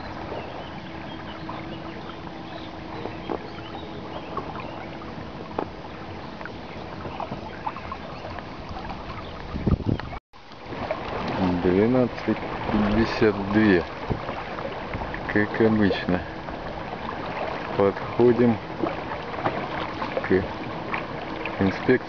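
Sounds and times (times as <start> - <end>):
rush of water and wind: 0.0 - 22.0
splashes slapping against hull: 0.0 - 22.0
heavy thumps on boat: 2.6 - 8.0, 8.7 - 21.6.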